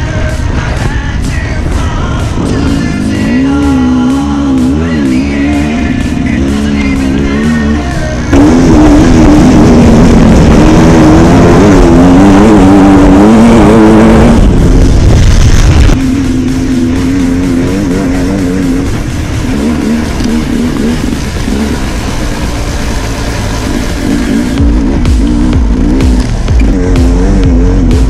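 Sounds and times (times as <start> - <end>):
dirt bike engine revving: 2.0 - 28.0.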